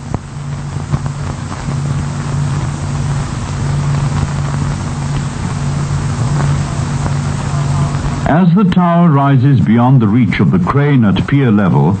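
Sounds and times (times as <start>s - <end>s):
even hiss: 0.0s - 12.0s
low mechanical drone: 0.0s - 12.0s.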